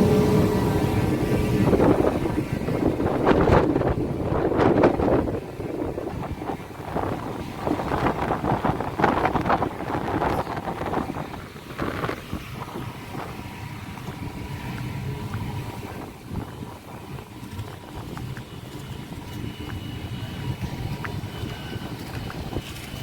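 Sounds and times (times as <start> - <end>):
ship engine rumble: 0.0 - 23.0
wind buffeting microphone: 0.0 - 23.0.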